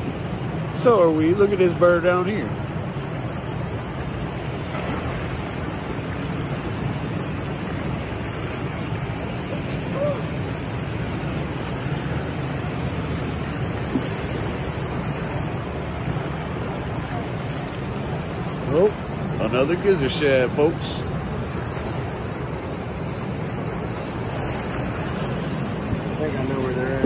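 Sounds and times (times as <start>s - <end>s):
churning water rushing: 0.0s - 27.0s.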